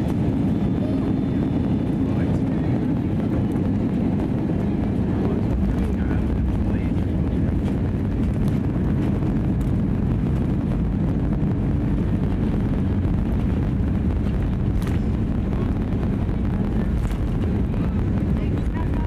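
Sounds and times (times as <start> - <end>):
airplane engine rumble in cabin: 0.0 - 19.0.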